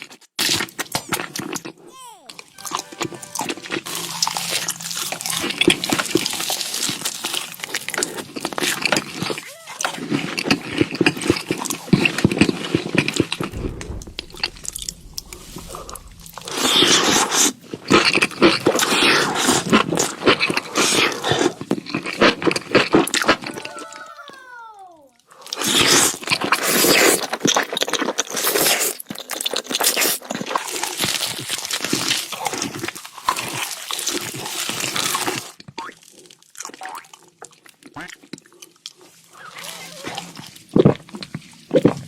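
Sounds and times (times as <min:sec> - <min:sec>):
crunching and chewing food: 0:00.0 - 0:15.1, 0:18.0 - 0:23.7, 0:25.2 - 0:42.0.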